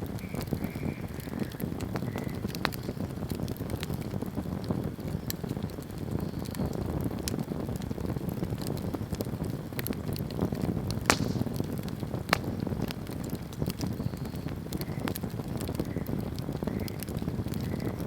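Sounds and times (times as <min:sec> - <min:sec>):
burning wood crackling and popping: 0:00.0 - 0:18.0
low rumble of flame: 0:00.0 - 0:18.0.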